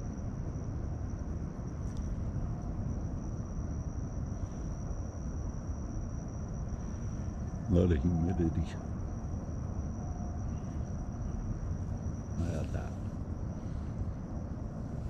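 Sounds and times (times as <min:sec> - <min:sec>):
crickets trilling: 0:00.0 - 0:15.0
low outdoor rumble: 0:00.0 - 0:15.0.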